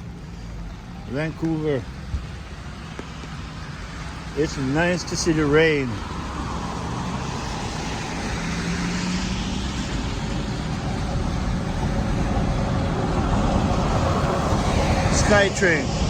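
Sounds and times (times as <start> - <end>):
low engine hum: 0.0 - 16.0
traffic hiss on wet road: 0.0 - 16.0.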